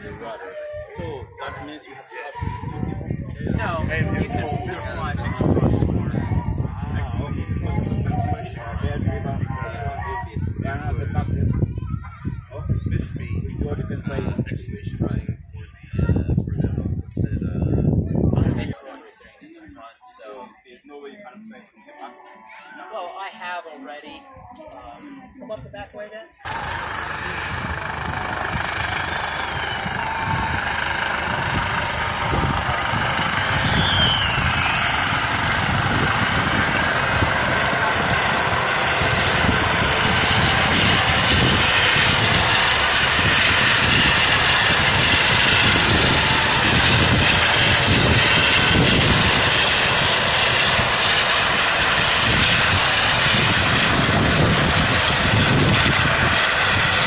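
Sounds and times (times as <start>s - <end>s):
helicopter flying overhead: 0.0s - 18.8s, 26.4s - 57.0s.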